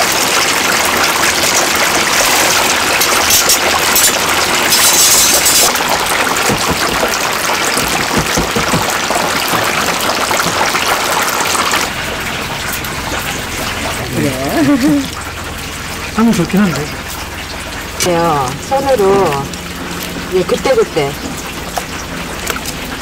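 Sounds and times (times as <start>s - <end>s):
water running from tap: 0.0s - 23.0s.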